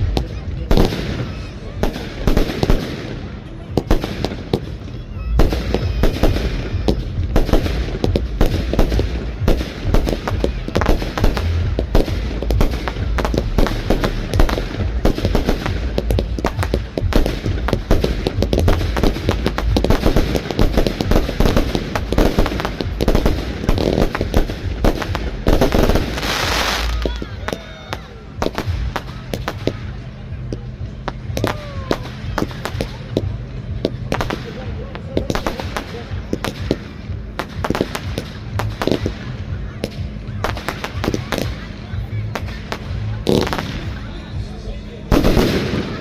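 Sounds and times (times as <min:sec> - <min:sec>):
fireworks bangs and booms: 0:00.0 - 0:46.0
fireworks crackling: 0:00.0 - 0:46.0.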